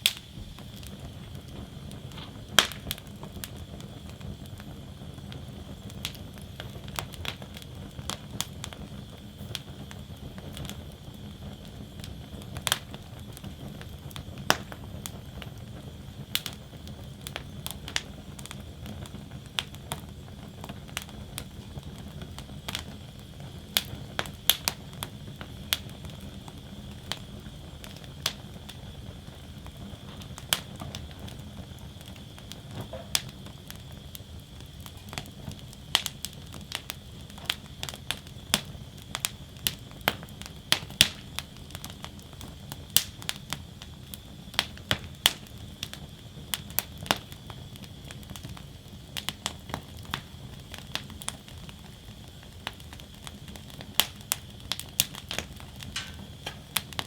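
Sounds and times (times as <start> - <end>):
fire crackling and popping: 0.0 - 57.0
low rumble of flames: 0.0 - 57.0.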